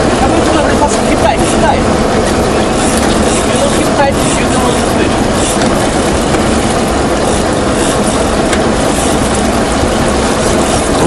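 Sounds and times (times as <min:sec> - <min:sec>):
boat engine running: 0:00.0 - 0:11.0
wind and water rushing: 0:00.0 - 0:11.0.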